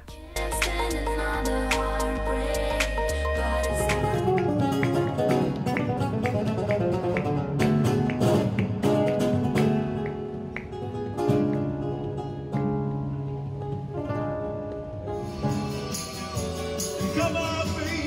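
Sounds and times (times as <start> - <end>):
flamenco acoustic guitar: 0.0 - 18.0.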